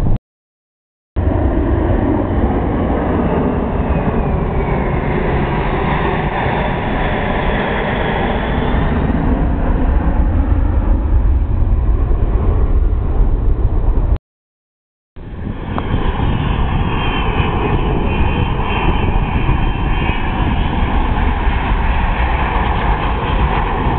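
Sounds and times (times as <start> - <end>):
jet engines running loud: 1.2 - 14.2, 15.2 - 23.9.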